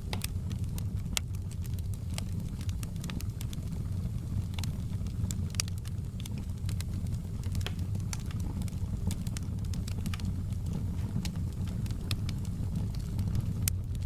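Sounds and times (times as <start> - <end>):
low rumble of burning: 0.0 - 14.0
wood fire popping and snapping: 0.0 - 14.0.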